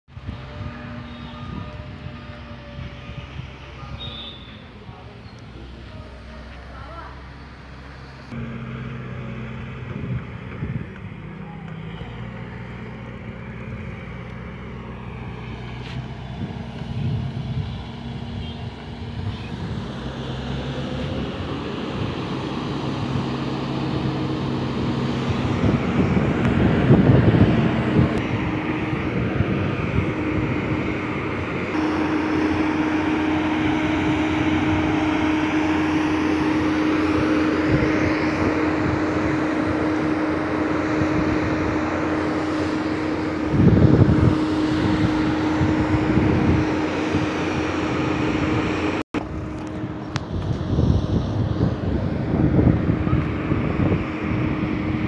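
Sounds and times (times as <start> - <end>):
road roller diesel engine running: 0.1 - 55.0.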